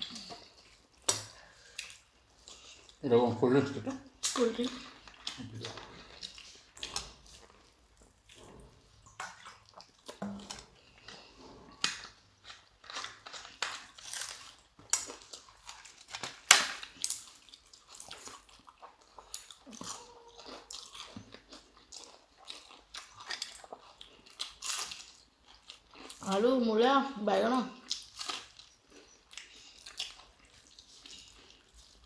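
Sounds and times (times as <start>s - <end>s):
crunching and chewing food: 0.0s - 32.0s.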